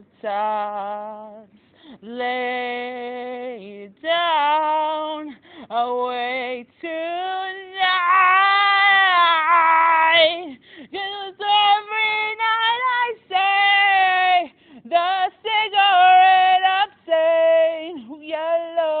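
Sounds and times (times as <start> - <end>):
person singing unaccompanied: 0.0 - 19.0.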